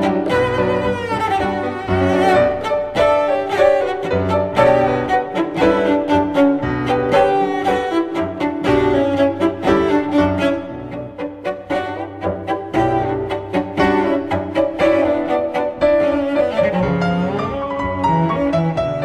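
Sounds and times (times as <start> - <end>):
cello and violin music: 0.0 - 19.0.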